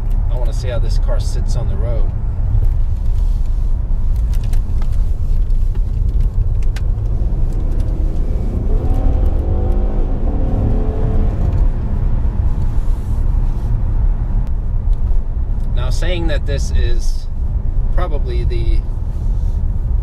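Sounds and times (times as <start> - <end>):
car engine accelerating: 0.0 - 16.0
road rumble inside car: 0.0 - 20.0.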